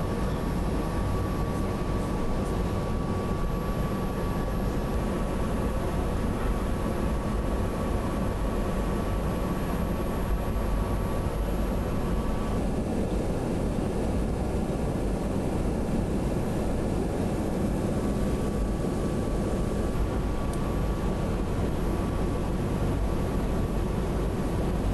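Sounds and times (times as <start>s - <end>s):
aircraft cabin engine drone: 0.0s - 24.9s.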